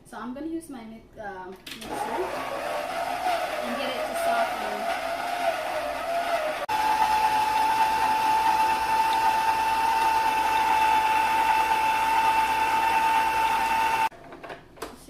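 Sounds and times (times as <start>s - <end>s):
electric kitchen mixer running: 1.8s - 14.1s.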